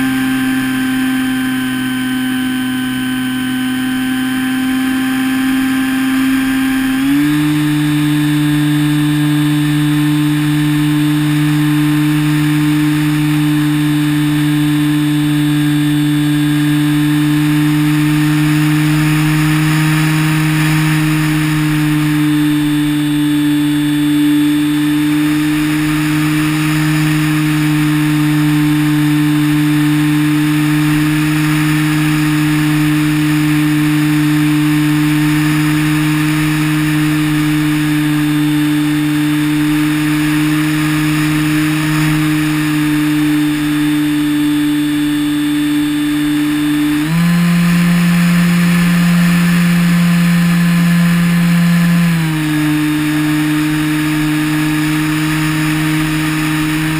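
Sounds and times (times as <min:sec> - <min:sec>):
model plane motor whine: 0:00.0 - 0:56.9.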